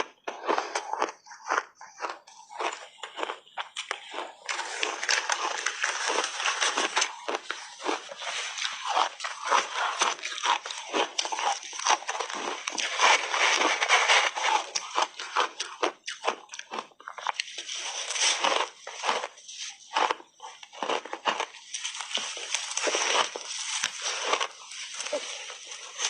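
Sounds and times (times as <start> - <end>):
crunching shaved ice: 0.4 - 26.0.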